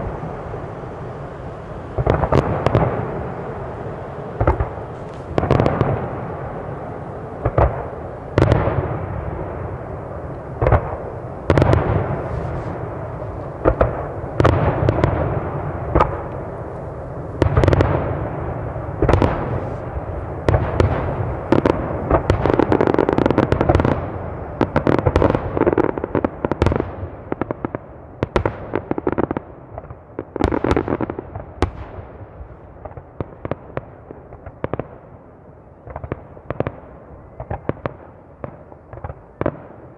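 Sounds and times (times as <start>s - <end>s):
firework shells booming: 1.9s - 35.0s.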